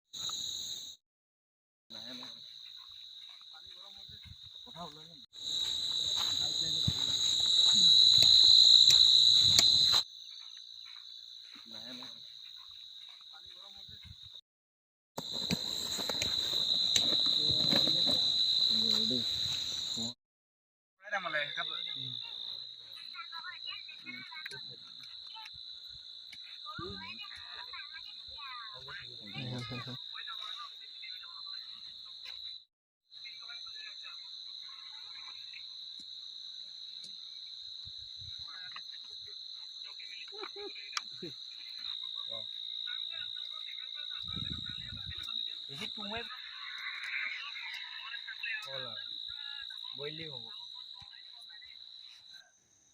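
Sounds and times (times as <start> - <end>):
crickets trilling: 0.2 - 1.0, 1.9 - 14.4, 15.2 - 20.2, 21.0 - 52.9.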